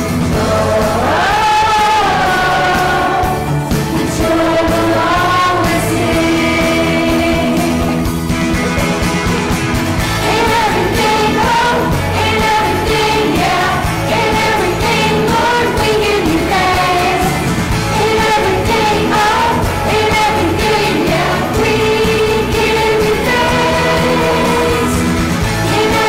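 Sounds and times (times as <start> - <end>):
worship song with band: 0.0 - 26.0.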